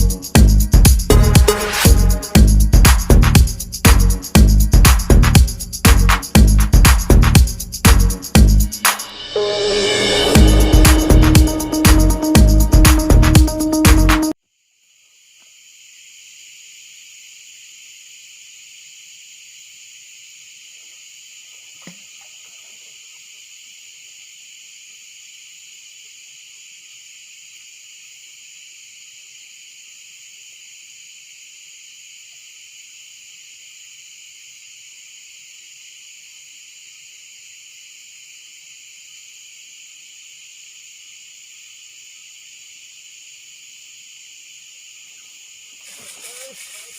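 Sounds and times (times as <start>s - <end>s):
insect chorus buzzing: 0.0s - 46.9s.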